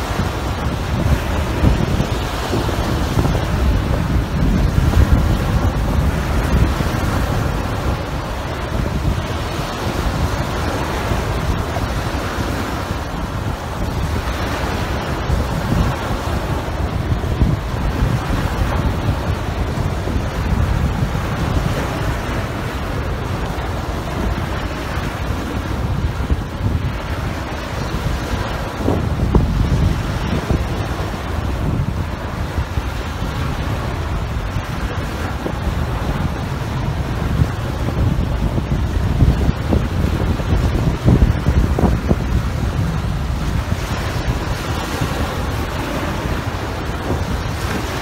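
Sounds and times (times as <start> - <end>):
waves breaking on beach: 0.0 - 48.0
wind buffeting microphone: 0.0 - 48.0.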